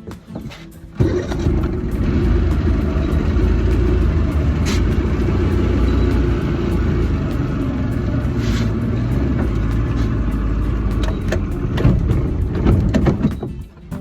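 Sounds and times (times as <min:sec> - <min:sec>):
outboard motor rumbling: 0:00.8 - 0:14.0.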